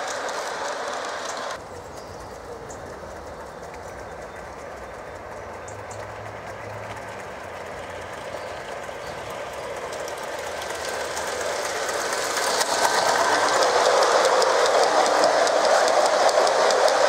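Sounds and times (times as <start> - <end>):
model train rolling on track: 0.0 - 17.0
wheels clicking over rails: 0.0 - 17.0.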